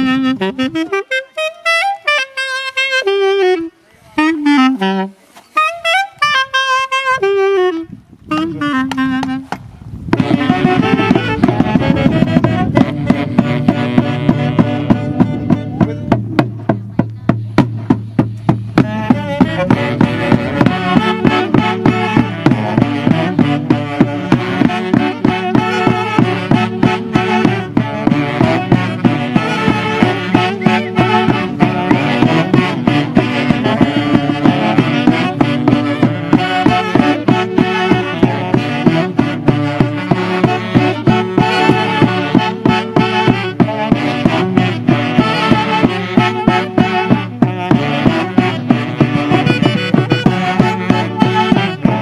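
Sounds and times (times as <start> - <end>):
solo saxophone melody: 0.0 - 16.5, 18.7 - 52.0
folk band of saxophones and drum: 0.0 - 52.0.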